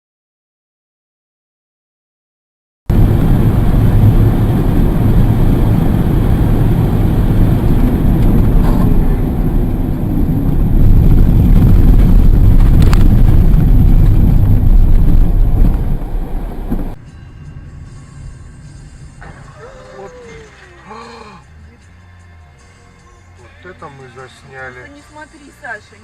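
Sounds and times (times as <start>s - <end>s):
vehicle engine and road rumble: 2.9s - 26.0s.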